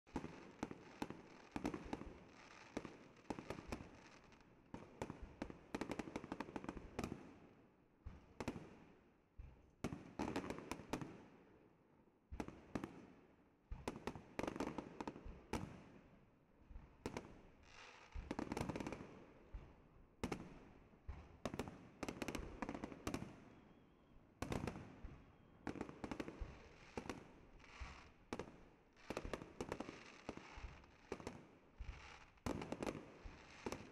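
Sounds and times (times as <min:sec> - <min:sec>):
fireworks bangs and crackles: 0:00.1 - 0:33.9.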